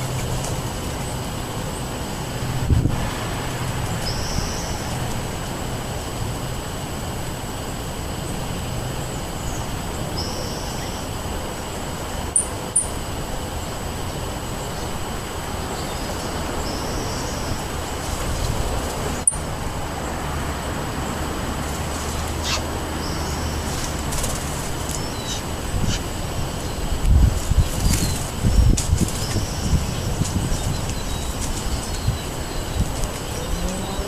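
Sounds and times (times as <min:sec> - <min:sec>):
wind rushing over microphone: 0:00.0 - 0:10.2, 0:13.0 - 0:34.0.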